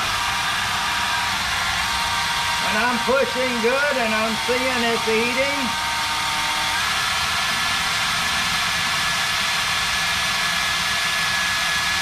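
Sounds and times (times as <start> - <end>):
cordless drill boring into metal: 0.0 - 12.0.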